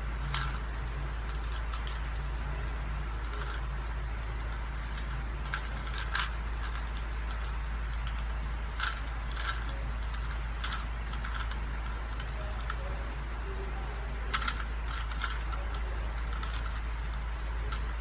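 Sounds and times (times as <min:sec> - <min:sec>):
puzzle cube clicking and rattling: 0:00.0 - 0:18.0
steady low hum: 0:00.0 - 0:18.0.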